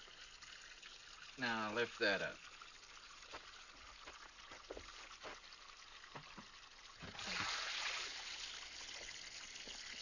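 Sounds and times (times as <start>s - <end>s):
water pouring and splashing: 0.0s - 10.0s.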